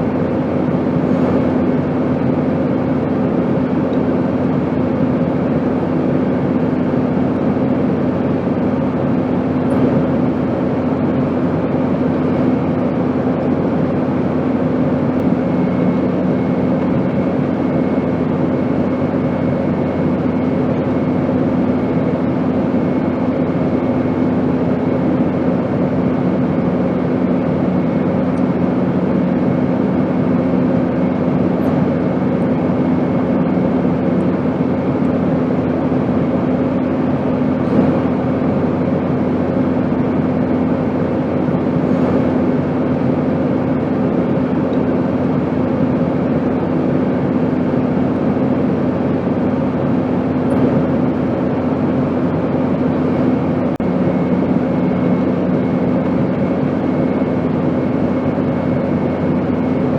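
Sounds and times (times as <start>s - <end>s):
airplane engine drone: 0.0s - 59.9s.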